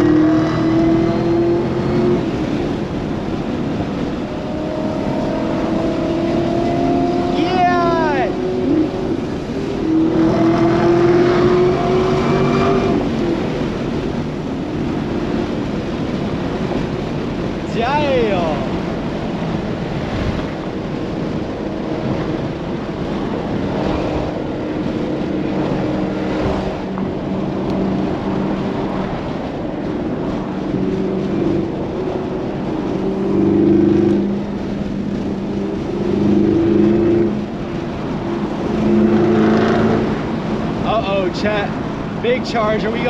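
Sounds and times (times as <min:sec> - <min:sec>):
car engine cruising: 0:00.0 - 0:43.0
road and tyre noise: 0:00.0 - 0:43.0.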